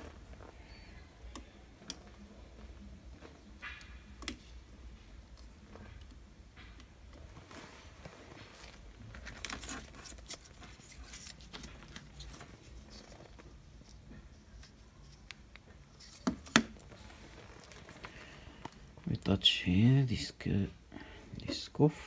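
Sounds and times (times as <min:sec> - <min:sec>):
hands rustling and tapping plastic: 0:01.3 - 0:19.3.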